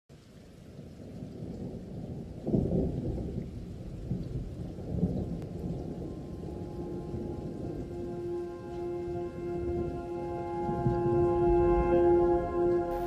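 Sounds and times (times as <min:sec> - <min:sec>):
thunder rumbling: 0:00.8 - 0:13.0.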